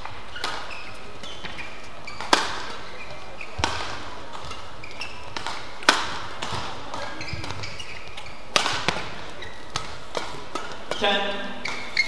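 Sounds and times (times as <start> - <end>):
racket hitting shuttlecock: 0.0 - 12.0
shoes squeaking on court: 0.0 - 12.0.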